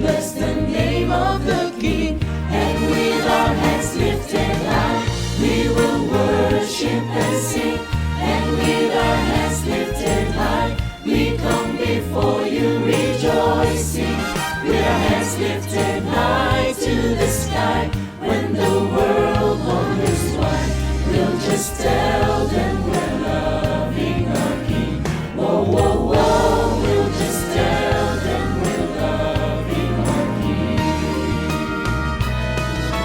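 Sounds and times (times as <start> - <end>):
voices singing: 0.0 - 32.1
band playing worship song: 0.0 - 33.0
steady bass notes: 0.0 - 33.0.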